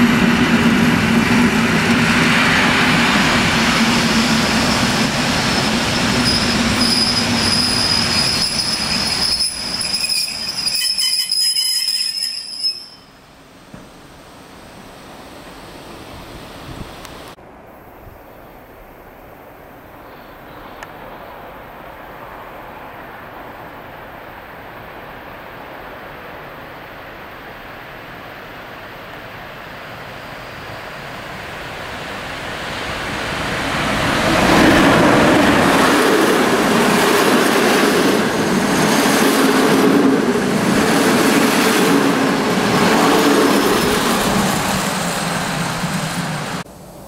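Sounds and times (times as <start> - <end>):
passenger train passing: 0.0 - 47.0.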